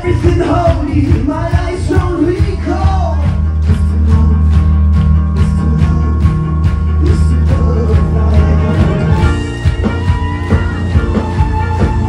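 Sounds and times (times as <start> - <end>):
heavy held bass: 0.0 - 12.0
live music through club sound system: 0.0 - 12.0
steady drum beat: 0.0 - 12.0.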